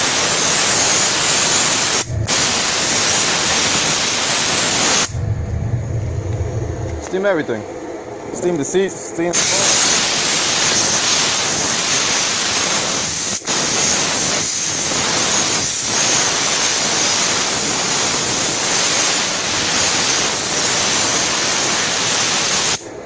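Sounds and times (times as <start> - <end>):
steam cleaner nozzle hissing: 0.0 - 5.2, 9.3 - 22.8.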